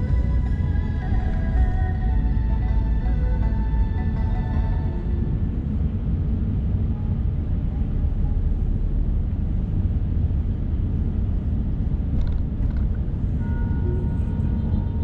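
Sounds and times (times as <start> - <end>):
car rumble heard from inside: 0.0 - 15.0.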